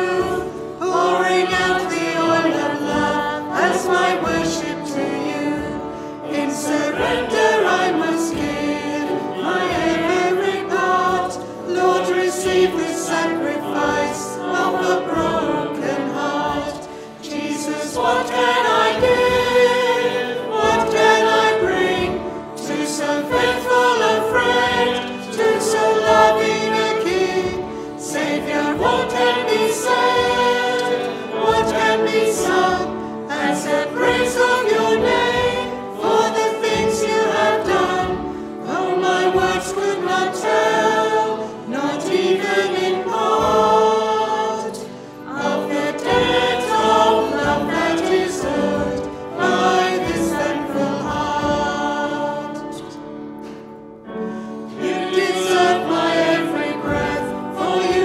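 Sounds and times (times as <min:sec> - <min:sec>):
accompanying instruments: 0:00.0 - 0:58.0
group singing worship song: 0:00.0 - 0:58.0.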